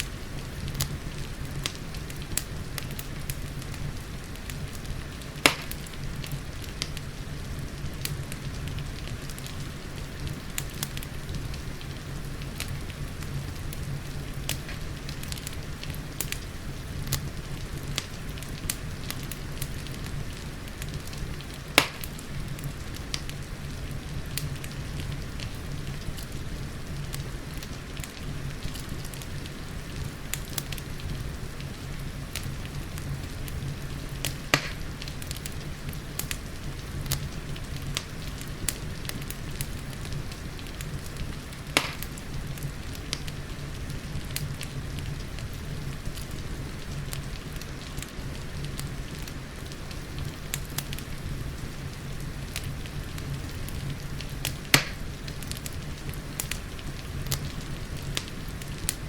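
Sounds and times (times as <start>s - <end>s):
loud fire pops: 0.0s - 59.0s
rain pattering: 0.0s - 59.0s
wood fire crackling: 0.0s - 59.0s.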